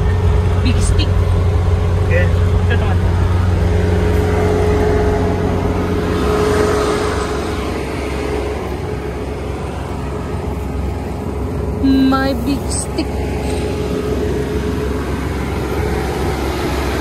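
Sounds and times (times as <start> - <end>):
combine harvester engine droning: 0.0 - 17.0
machinery whine: 0.0 - 17.0.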